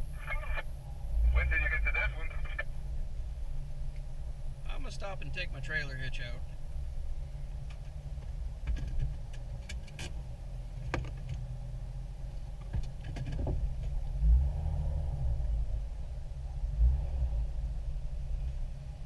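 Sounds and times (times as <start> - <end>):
engine and drivetrain rumble: 0.0 - 19.0.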